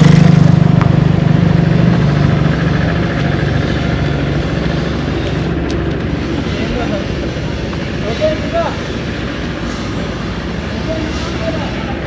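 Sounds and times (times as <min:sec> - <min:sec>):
construction machine engine running: 0:00.0 - 0:12.0.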